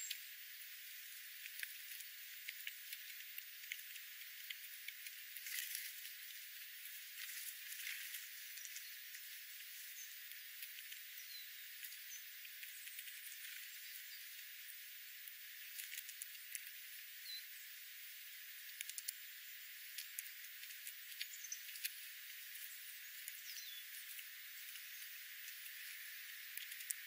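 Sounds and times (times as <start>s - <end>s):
faint steady hiss: 0.0s - 27.0s
birds pecking on gravel: 0.6s - 27.0s.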